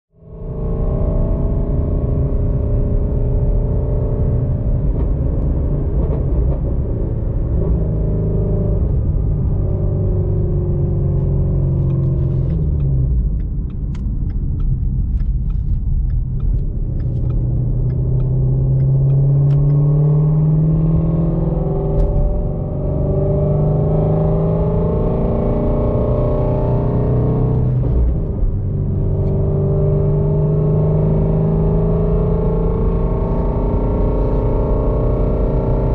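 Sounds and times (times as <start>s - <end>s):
car engine under throttle: 0.1s - 35.9s.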